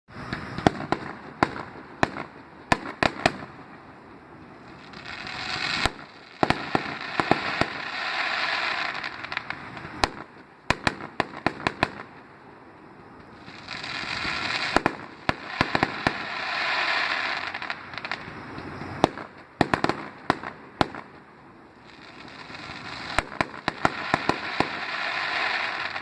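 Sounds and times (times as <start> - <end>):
fireworks bangs and cracks: 0.1 - 12.3, 13.2 - 26.0
fireworks hiss and crackle: 0.1 - 26.0.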